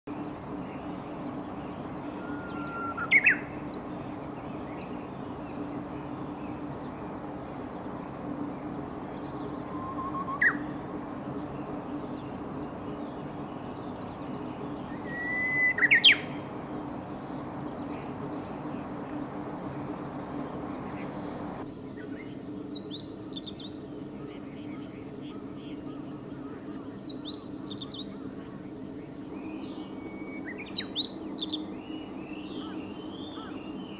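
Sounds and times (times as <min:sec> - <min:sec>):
bush warbler singing: 0:00.1 - 0:33.9
bunting twittering: 0:00.2 - 0:33.9.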